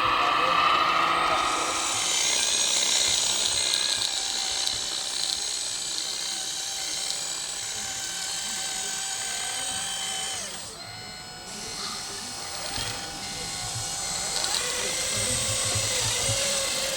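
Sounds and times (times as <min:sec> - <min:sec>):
small electric motor whining: 0:00.0 - 0:16.9.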